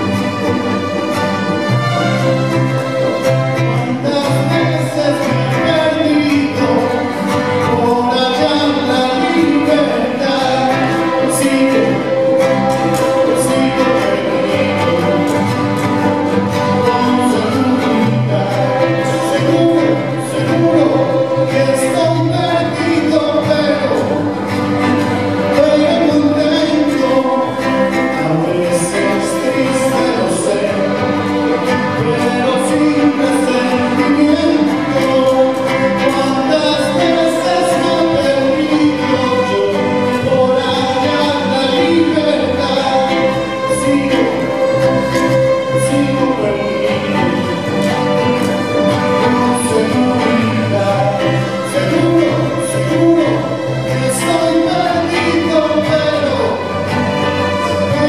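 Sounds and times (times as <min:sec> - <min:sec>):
acoustic guitar: 0:00.0 - 0:58.0
string orchestra: 0:00.0 - 0:58.0.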